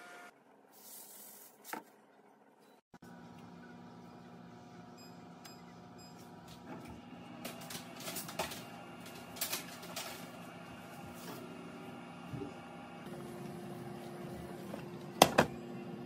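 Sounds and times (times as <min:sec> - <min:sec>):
cooktop electrical hum: 0:00.0 - 0:16.0.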